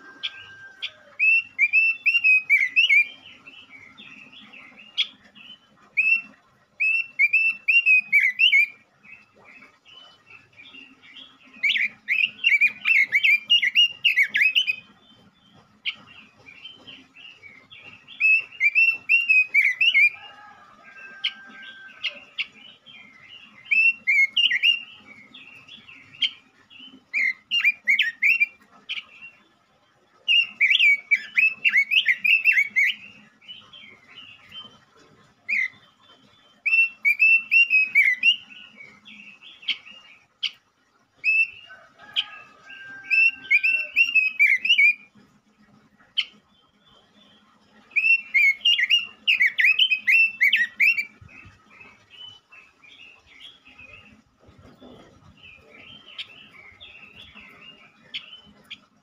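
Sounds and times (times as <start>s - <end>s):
bird warbling song: 0.0s - 59.0s.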